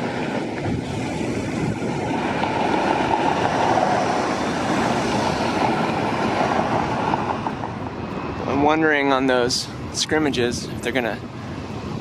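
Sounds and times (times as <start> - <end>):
passing vehicle rumble: 0.0 - 12.0.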